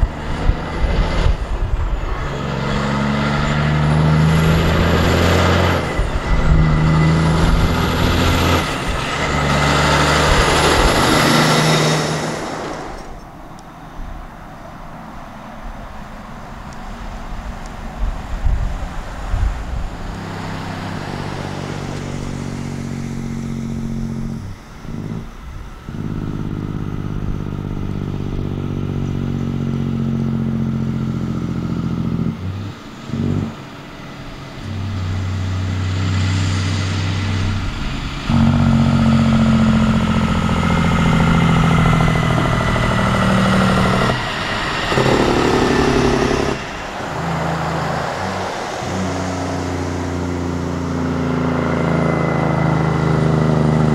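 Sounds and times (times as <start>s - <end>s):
truck diesel engine changing gears: 0.0s - 53.9s.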